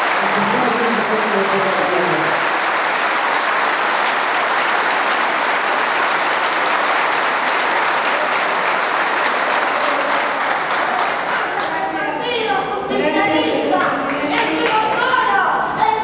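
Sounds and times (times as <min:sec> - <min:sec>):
crowd applauding: 0:00.0 - 0:12.0, 0:13.5 - 0:15.1.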